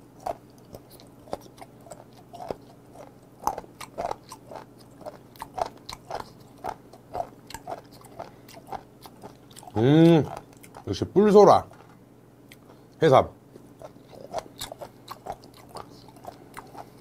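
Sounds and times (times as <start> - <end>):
person chewing: 0.1 - 10.9, 11.7 - 13.0, 13.6 - 17.0.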